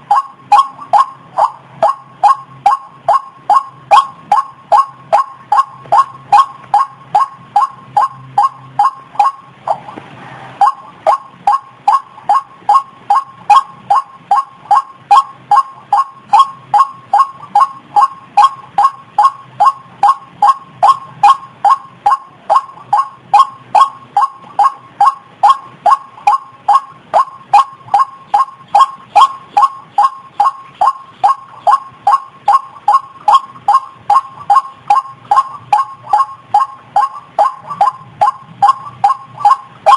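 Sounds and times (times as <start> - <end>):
waterhen calling: 0.0 - 10.0, 10.6 - 39.9.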